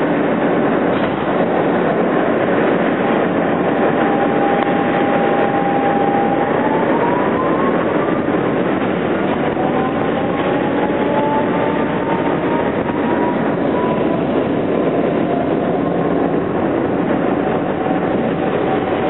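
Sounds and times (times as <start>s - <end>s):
subway car rumbling on rails: 0.0s - 19.0s.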